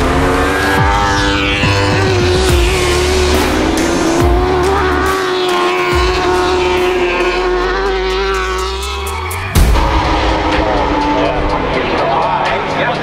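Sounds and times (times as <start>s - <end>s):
motorcycle engine at high revs: 0.0s - 11.8s.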